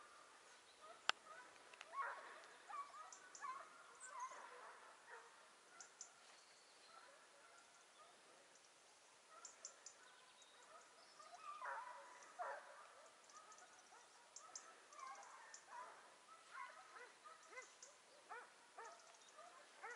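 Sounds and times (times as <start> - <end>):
distant hounds baying: 0.0 - 8.4, 9.2 - 19.9.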